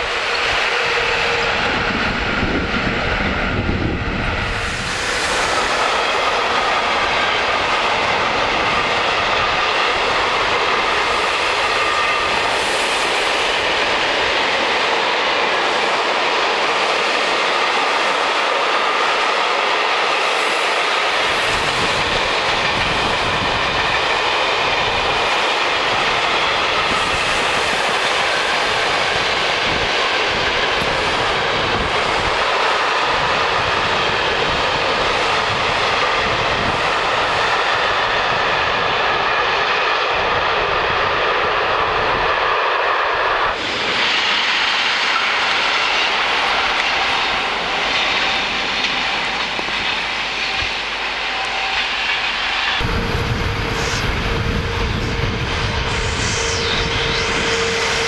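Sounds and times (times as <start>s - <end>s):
freight train rolling past: 0.0s - 58.0s
passenger train passing: 0.0s - 58.0s.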